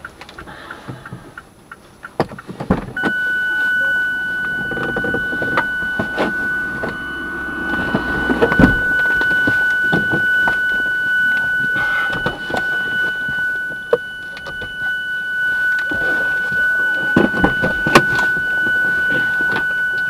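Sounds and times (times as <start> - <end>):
steady high-pitched tone: 3.0 - 20.0.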